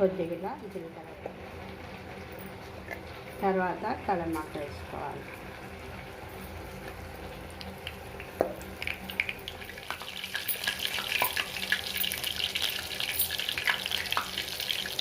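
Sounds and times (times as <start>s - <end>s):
seeds crackling in hot oil: 0.1s - 15.0s.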